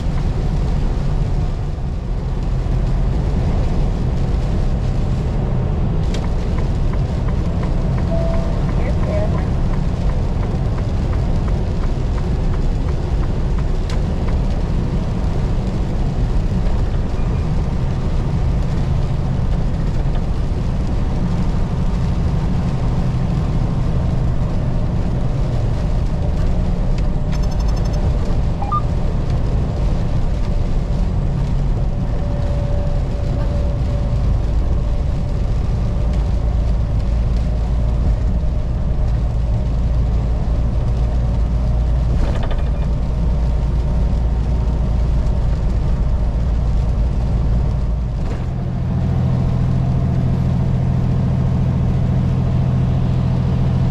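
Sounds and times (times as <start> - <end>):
diesel truck engine and road drone: 0.0 - 53.9.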